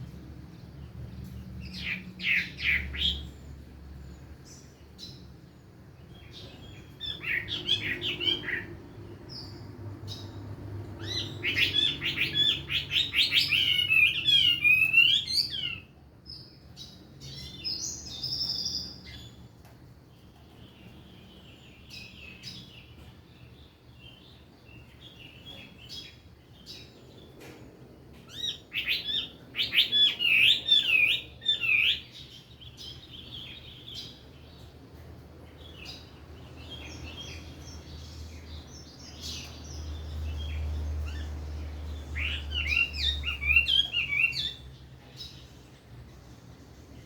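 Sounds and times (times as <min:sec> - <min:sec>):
soft bird chirping: 0:00.0 - 0:47.0.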